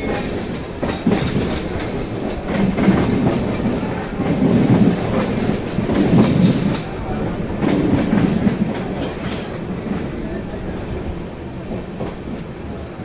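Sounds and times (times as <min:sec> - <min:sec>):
wheels clattering over rail joints: 0:00.0 - 0:10.7
train rumbling: 0:00.0 - 0:13.0.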